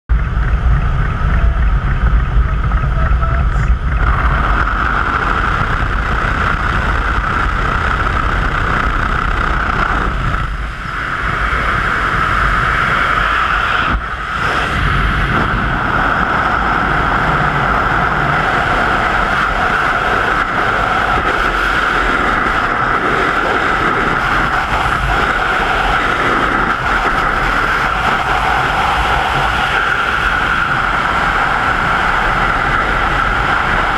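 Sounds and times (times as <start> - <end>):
wind rushing on camera: 0.1 - 33.9.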